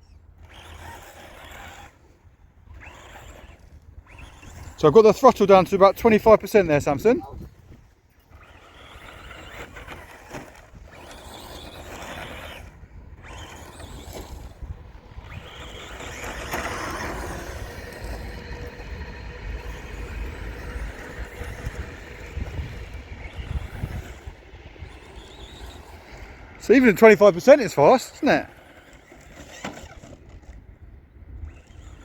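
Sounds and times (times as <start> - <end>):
rc car motor whining: 0.0 - 32.0.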